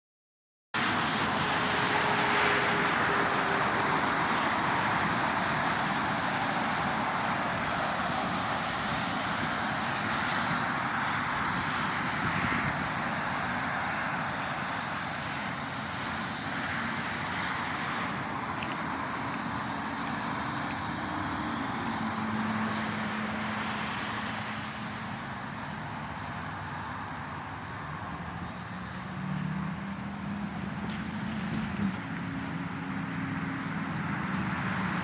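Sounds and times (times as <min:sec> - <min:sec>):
low vehicle engine hum: 0:00.8 - 0:35.0
road traffic noise: 0:00.8 - 0:35.0.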